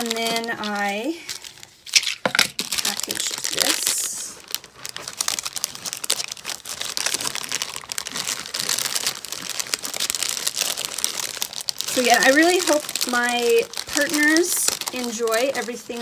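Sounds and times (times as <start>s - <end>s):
cellophane packets crinkling: 0.0s - 16.0s.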